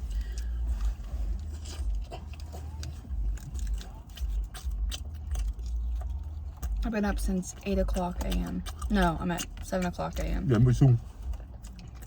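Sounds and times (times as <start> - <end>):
low engine rumble: 0.0 - 12.0
people chewing food: 0.0 - 12.0
eating clicks: 1.9 - 12.0.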